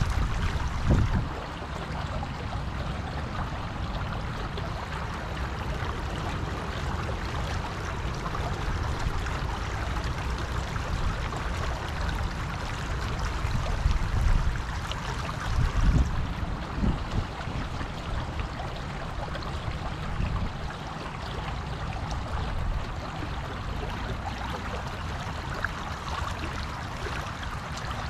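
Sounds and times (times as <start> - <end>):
river rushing over its bed: 0.0 - 28.0
wind rumble on microphone: 0.0 - 28.0.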